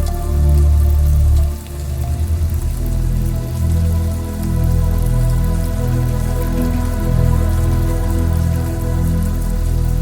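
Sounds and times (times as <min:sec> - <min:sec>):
rain pattering: 0:00.0 - 0:10.0
slow ambient synth music: 0:00.0 - 0:10.0.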